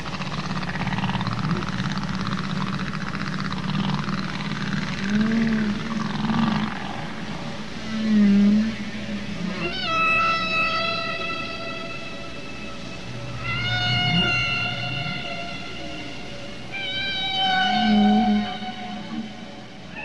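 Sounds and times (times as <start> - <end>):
underwater rumble: 0.0 - 20.0
whale song moans and calls: 0.0 - 20.0.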